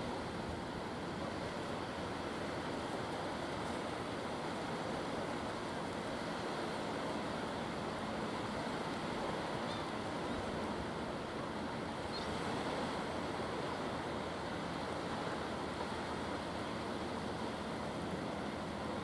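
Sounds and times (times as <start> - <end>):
sea surf rushing: 0.0 - 19.0
wind: 0.0 - 19.0.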